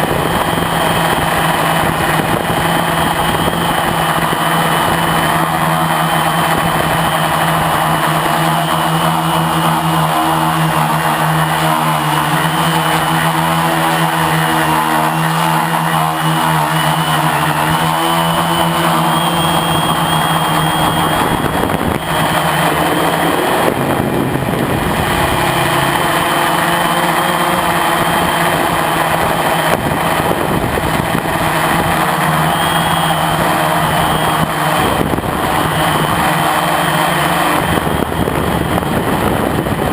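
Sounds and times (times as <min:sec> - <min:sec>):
quadcopter propellers whirring: 0:00.0 - 0:39.9.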